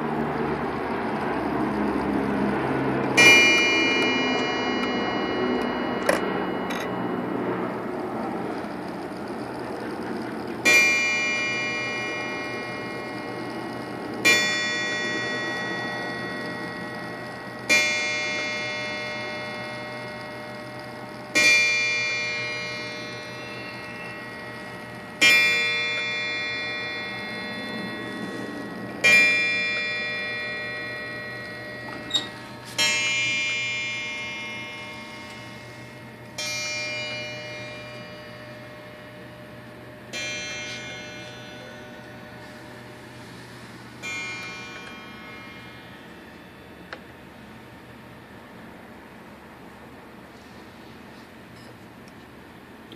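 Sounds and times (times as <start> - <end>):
clock striking gong: 0.0 - 51.9.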